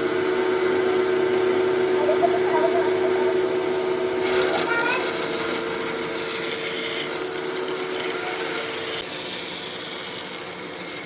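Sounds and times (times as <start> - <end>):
power tool whining on wood: 0.0 - 11.0.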